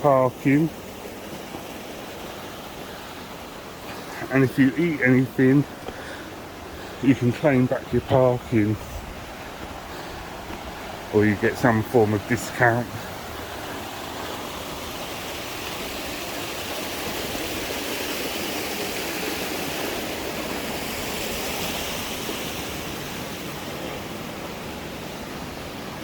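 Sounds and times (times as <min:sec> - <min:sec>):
river water and waterfalls rushing: 0:00.0 - 0:26.0.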